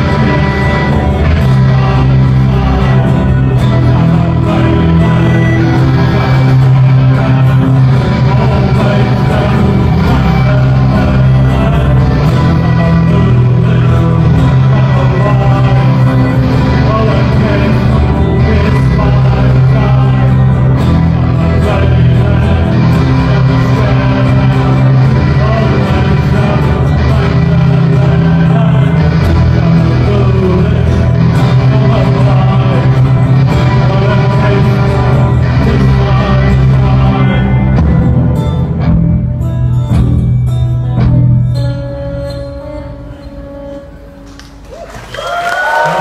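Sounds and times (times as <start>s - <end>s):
folk-rock band playing: 0.0s - 46.0s.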